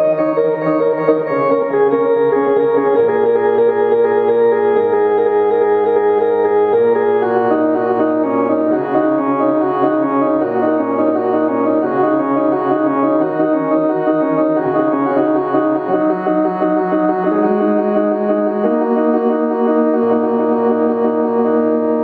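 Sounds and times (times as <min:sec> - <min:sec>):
keyboard chords: 0:00.0 - 0:22.0.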